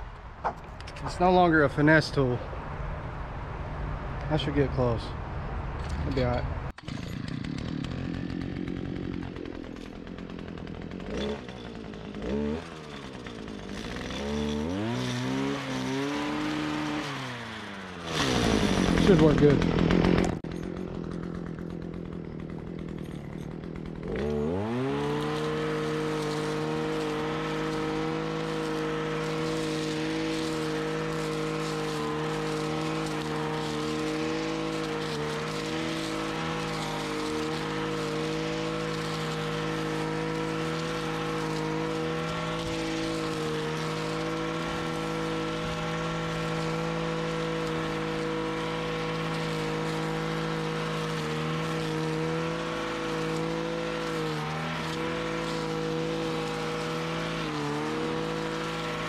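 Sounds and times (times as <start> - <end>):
weed eater engine revving: 5.8 - 59.0.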